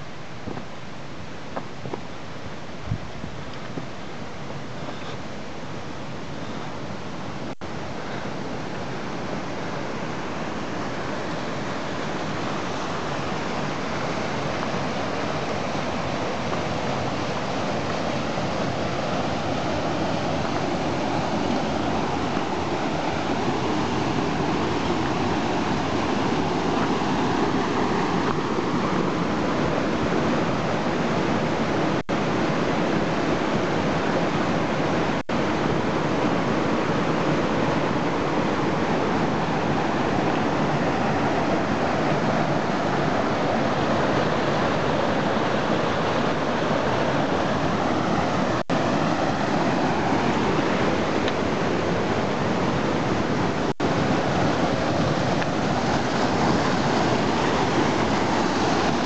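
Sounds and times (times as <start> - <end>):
mountain creek rushing: 0.0 - 59.0.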